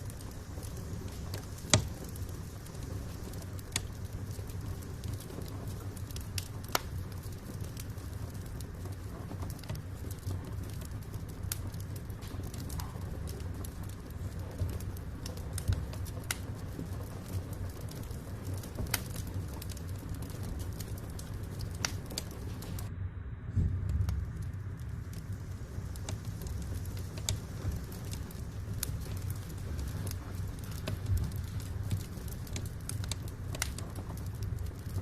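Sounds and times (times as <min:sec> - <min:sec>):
logs crackling and popping: 0:00.0 - 0:22.9, 0:23.6 - 0:35.0
fire flames rumbling: 0:00.0 - 0:35.0.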